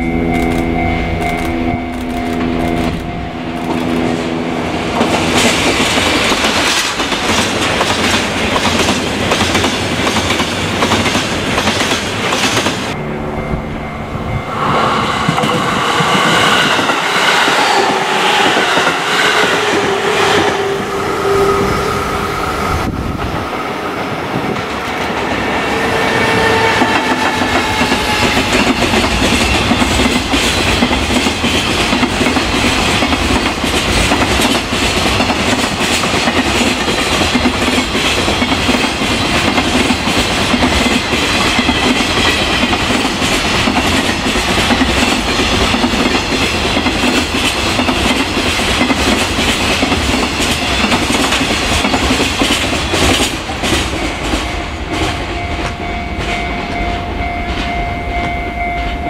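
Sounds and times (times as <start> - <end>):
locomotive engines humming: 0.0 - 59.0.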